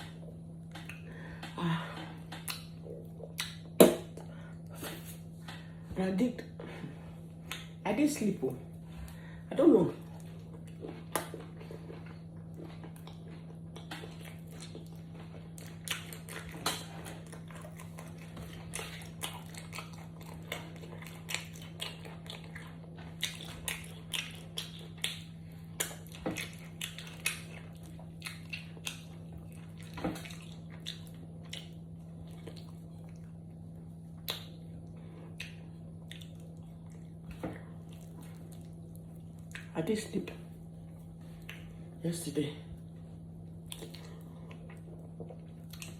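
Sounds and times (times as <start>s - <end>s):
chewing: 0.0s - 5.8s, 10.0s - 39.8s, 40.5s - 41.8s, 42.8s - 45.9s
steady low hum: 0.0s - 45.9s.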